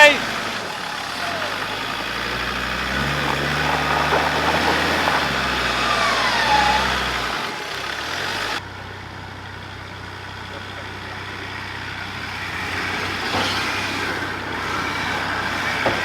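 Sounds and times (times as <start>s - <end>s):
engine working under load: 0.0s - 16.0s.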